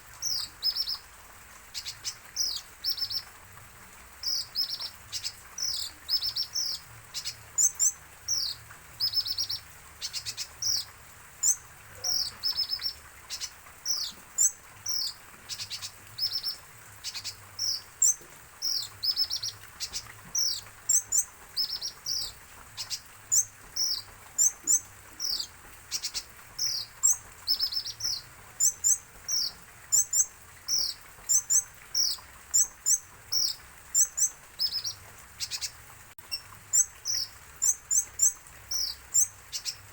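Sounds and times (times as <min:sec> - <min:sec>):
sunbird chirping: 0:00.2 - 0:01.0, 0:04.2 - 0:35.7, 0:36.3 - 0:39.9.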